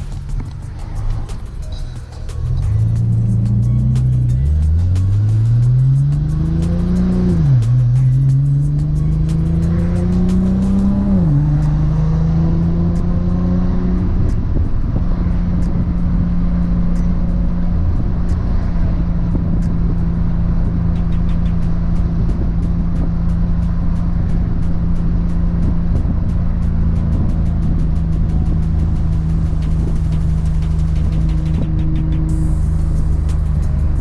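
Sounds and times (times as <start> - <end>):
car engine accelerating through gears: 0.0 - 34.0.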